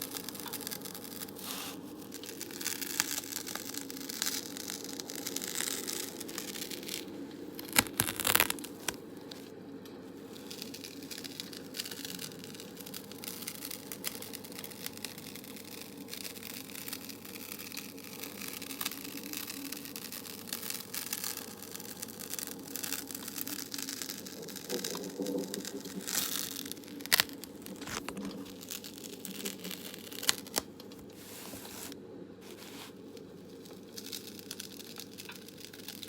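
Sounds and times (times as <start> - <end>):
steady background hiss: 0.0 - 35.8
close crinkling and scratching: 0.0 - 36.0.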